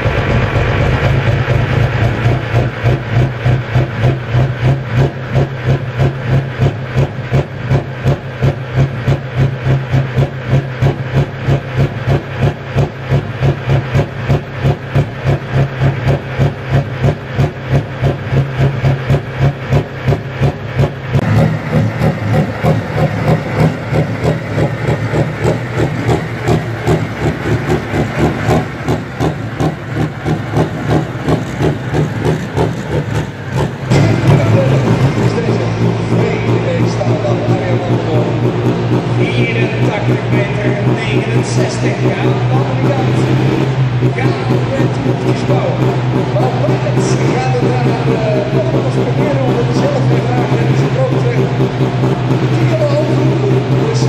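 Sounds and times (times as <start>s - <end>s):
diesel tractor engine idling: 0.0s - 54.0s
tractor driving: 0.0s - 54.0s.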